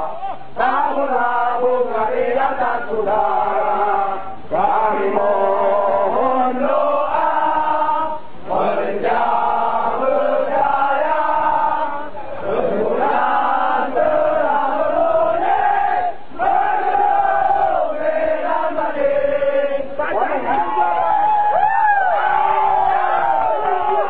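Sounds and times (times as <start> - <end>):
crowd chanting: 0.0 - 24.0.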